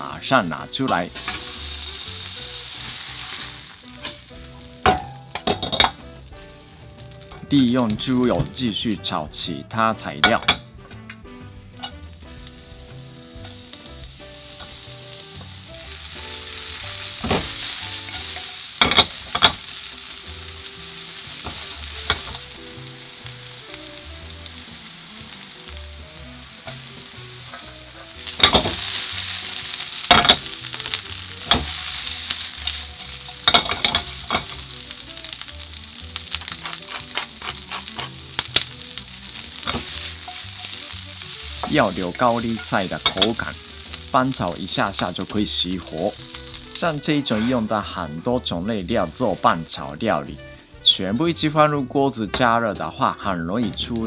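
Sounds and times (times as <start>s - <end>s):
vegetables sizzling in a pan: 0.0s - 8.6s, 11.4s - 51.0s.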